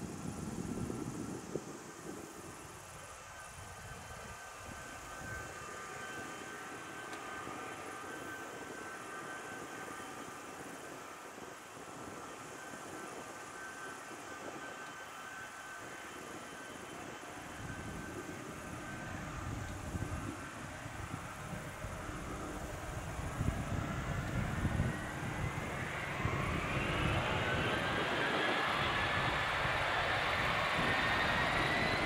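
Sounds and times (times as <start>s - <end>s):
jet engines roaring at taxi power: 0.0s - 32.0s.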